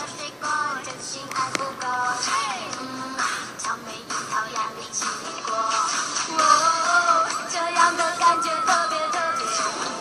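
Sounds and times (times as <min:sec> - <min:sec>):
song with high gliding vocals: 0:00.0 - 0:10.0.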